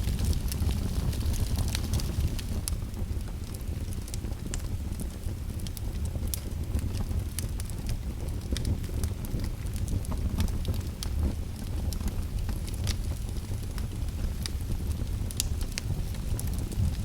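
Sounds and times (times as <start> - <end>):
fire crackling and popping: 0.0 - 17.0
wood fire burning: 0.0 - 17.0.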